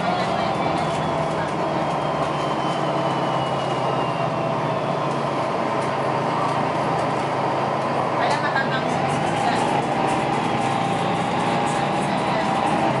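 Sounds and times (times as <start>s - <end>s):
bus engine drone: 0.0s - 13.0s
road and cabin rumble: 0.0s - 13.0s.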